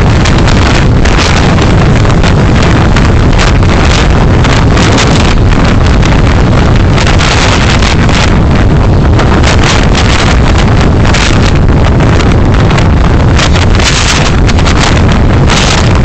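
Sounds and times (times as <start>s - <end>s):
road and engine rumble: 0.0s - 16.0s
wind buffeting microphone: 0.0s - 16.0s.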